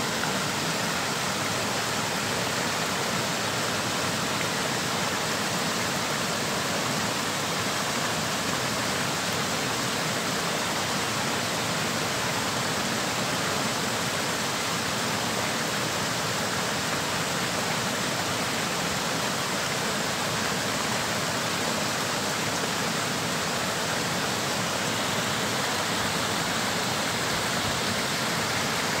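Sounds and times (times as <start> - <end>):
water rushing over concrete edge: 0.0 - 29.0.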